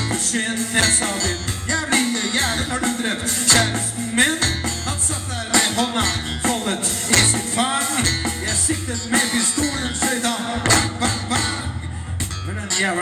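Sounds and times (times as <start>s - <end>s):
drum kit: 0.0s - 12.6s
electric guitar: 0.0s - 13.0s
keyboards: 0.0s - 13.0s.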